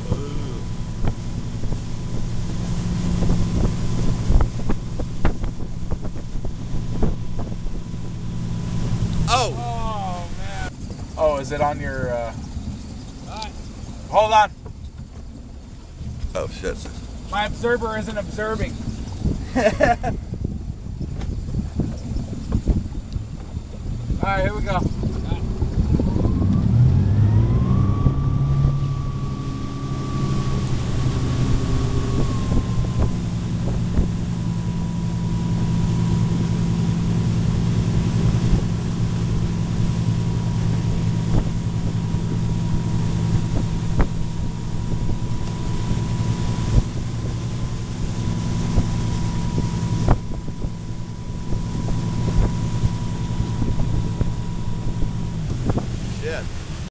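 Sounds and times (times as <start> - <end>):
boat engine pulling hard: 0.0 - 56.9
thin steady whine: 0.0 - 56.9
wind buffeting microphone: 0.0 - 56.9.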